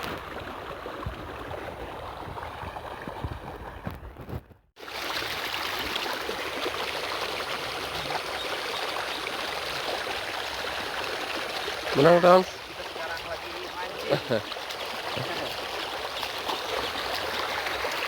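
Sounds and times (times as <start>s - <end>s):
water rushing in a channel: 0.0s - 4.0s, 4.8s - 18.0s.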